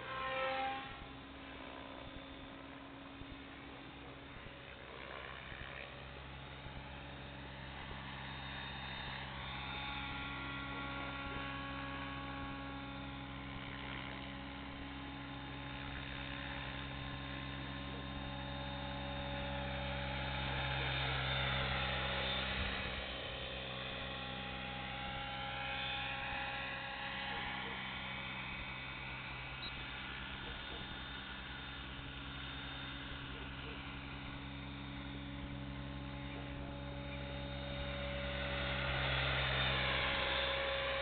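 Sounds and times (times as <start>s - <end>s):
rc helicopter motor and rotor: 0.0s - 41.0s.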